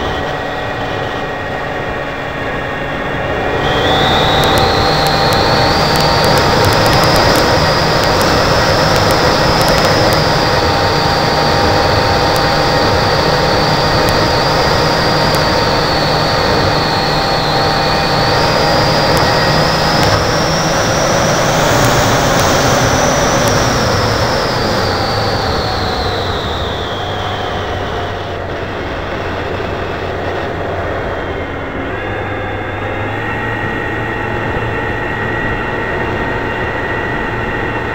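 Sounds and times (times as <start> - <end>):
model aircraft motor whining: 0.0 - 37.9.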